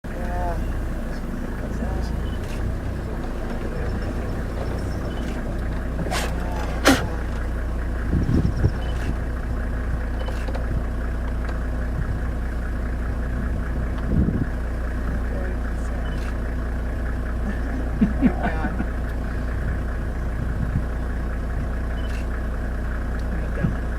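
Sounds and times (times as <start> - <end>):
vehicle engine idling: 0.0 - 23.9.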